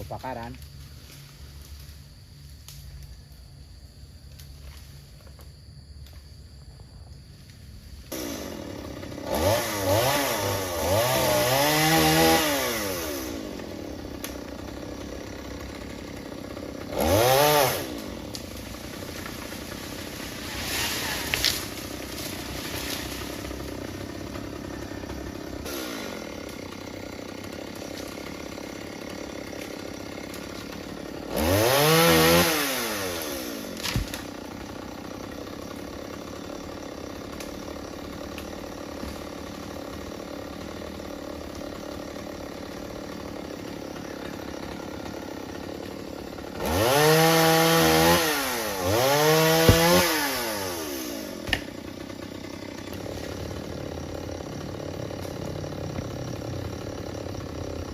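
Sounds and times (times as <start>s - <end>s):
chainsaw idling and revving: 0.0s - 3.4s, 7.4s - 57.9s.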